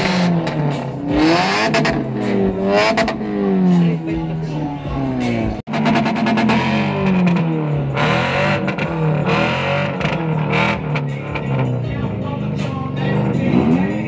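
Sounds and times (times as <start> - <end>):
loud guitar music: 0.0 - 14.0.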